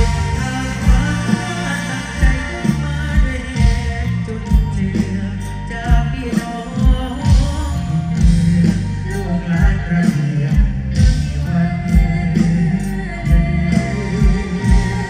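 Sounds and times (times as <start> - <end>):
live band through pa system: 0.0 - 15.0
person singing: 0.0 - 15.0.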